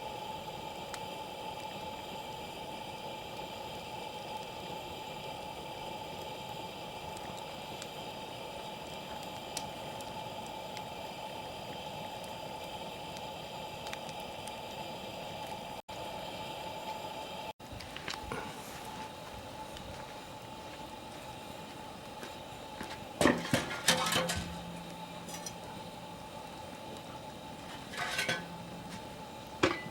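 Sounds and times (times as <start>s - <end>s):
fire crackles and pops: 0.0s - 15.8s, 17.6s - 29.9s
wood fire hissing: 0.0s - 29.9s.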